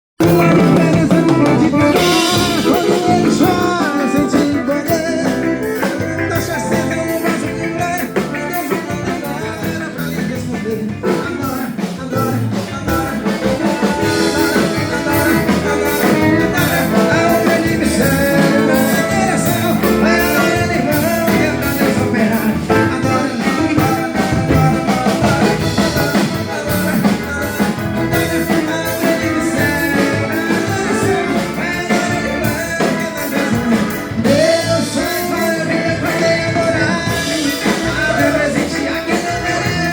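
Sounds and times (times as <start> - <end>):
band music with steady beat: 0.2 - 39.9.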